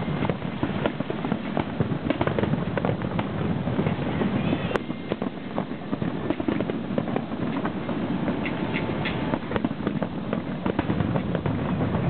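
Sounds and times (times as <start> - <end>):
background rumble: 0.0 - 12.0
fireworks popping and crackling: 0.0 - 12.0.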